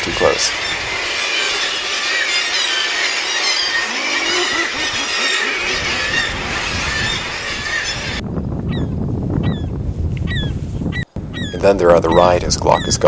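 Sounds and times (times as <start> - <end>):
seabirds squealing calls: 0.0 - 8.9, 11.2 - 13.0.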